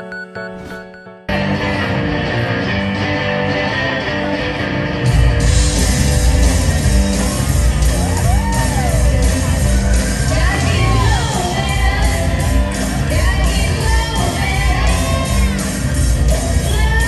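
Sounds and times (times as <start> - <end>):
jive music with strong bass: 0.5 - 17.0.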